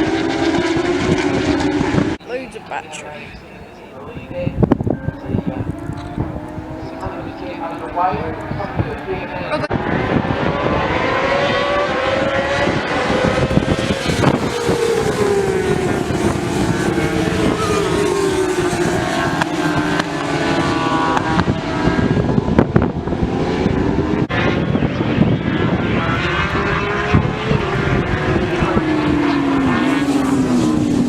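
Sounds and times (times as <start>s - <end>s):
racing motorcycle engines: 0.0s - 31.0s
motorcycle passing by: 4.0s - 31.0s.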